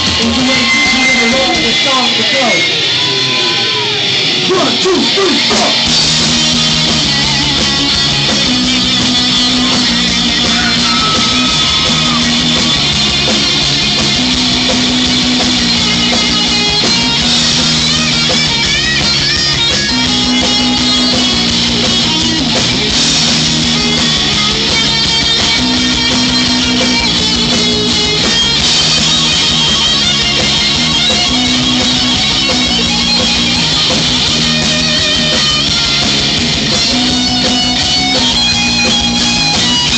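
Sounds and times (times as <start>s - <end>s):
electric guitar riff: 0.0s - 39.9s
rock band playing: 0.0s - 39.9s.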